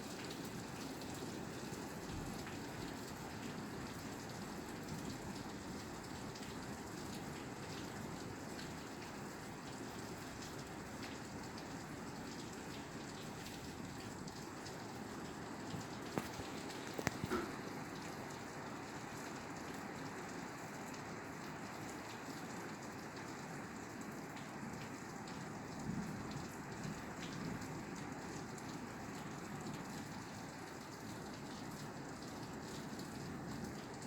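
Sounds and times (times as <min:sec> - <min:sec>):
rain on a roof: 0:00.0 - 0:34.0.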